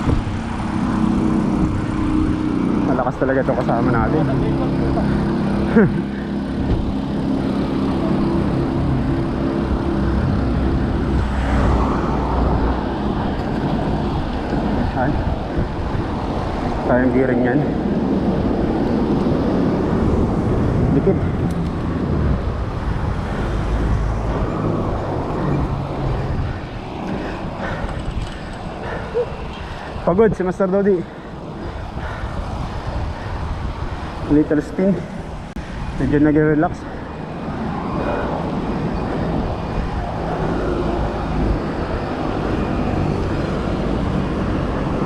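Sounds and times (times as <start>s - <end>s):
vehicle engine hum: 0.0s - 45.0s
wind rumble on microphone: 0.0s - 45.0s.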